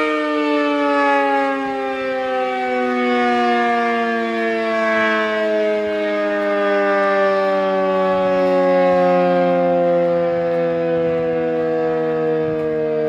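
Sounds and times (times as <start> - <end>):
dual-tone warning siren: 0.0 - 13.0.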